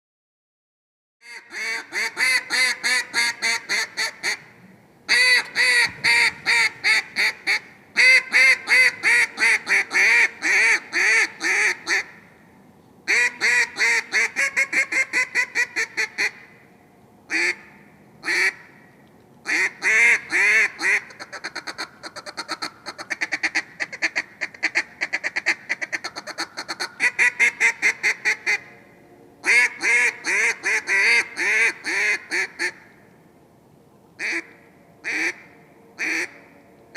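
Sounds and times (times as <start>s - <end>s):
duck call quacking: 1.2s - 4.5s, 5.1s - 12.2s, 13.1s - 16.5s, 17.3s - 18.8s, 19.4s - 28.7s, 29.4s - 32.9s, 34.2s - 36.5s.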